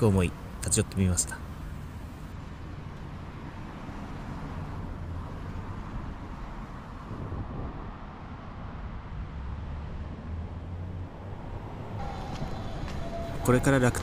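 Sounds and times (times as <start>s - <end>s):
low traffic hum: 0.0s - 14.0s
car passing: 0.2s - 14.0s.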